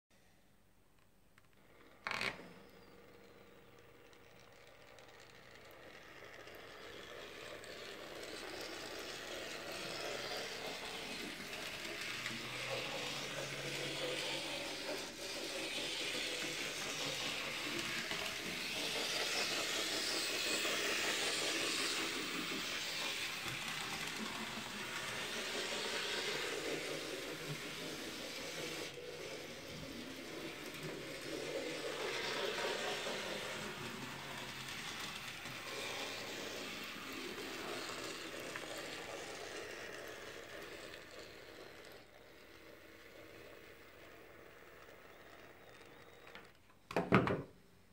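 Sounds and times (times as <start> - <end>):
model train motor whirring: 1.6 - 46.7.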